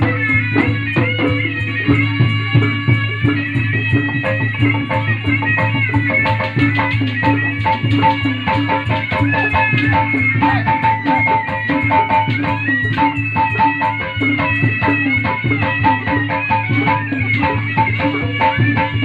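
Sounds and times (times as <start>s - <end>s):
fast hand drum strokes: 0.0s - 19.0s
wavering high melody: 0.0s - 19.0s.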